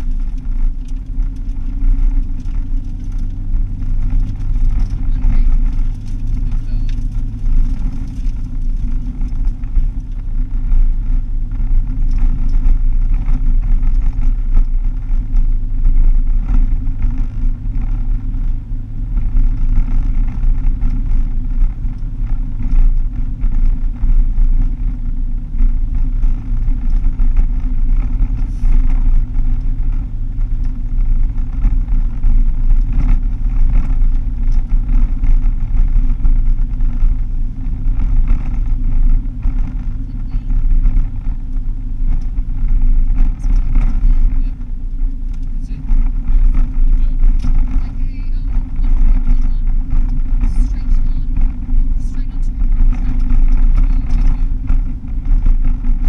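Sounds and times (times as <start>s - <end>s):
low engine drone: 0.0s - 56.0s
small rattles and clicks: 0.0s - 56.0s
tyre and road rumble: 0.0s - 56.0s.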